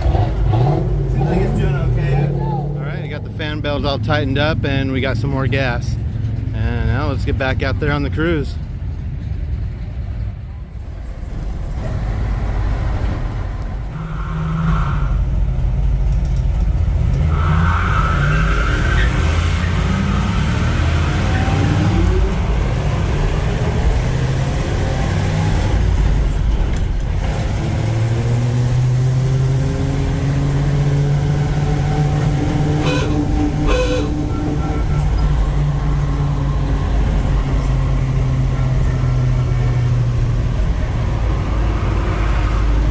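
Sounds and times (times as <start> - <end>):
bus engine accelerating: 0.0 - 42.9.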